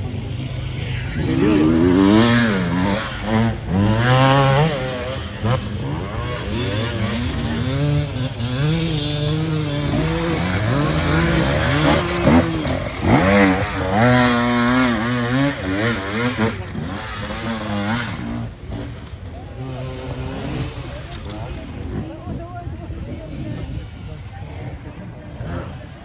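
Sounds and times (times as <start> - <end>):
racing engines revving: 0.0 - 26.0.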